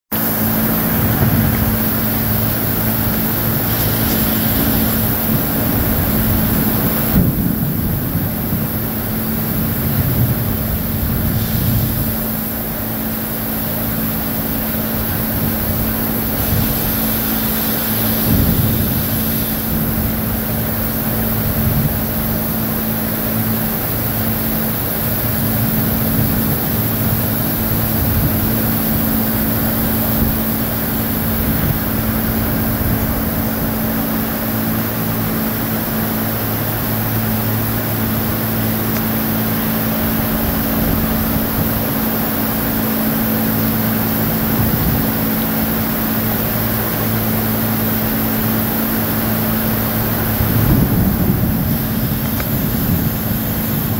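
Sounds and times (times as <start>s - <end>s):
engine idling: 0.1s - 53.9s
heavy rain: 0.2s - 53.9s
wind gusting against microphone: 0.3s - 13.2s, 14.0s - 37.0s, 38.5s - 43.6s, 49.1s - 53.9s.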